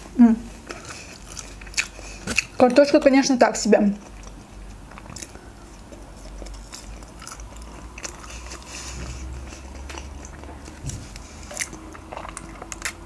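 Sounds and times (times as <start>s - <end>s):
chewing with soft crunches: 0.5s - 3.3s, 4.0s - 13.0s.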